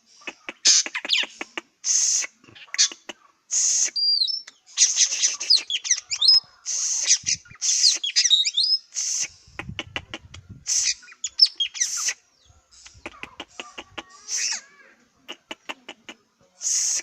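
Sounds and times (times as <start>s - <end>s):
bird rasping calls: 0.1s - 17.0s.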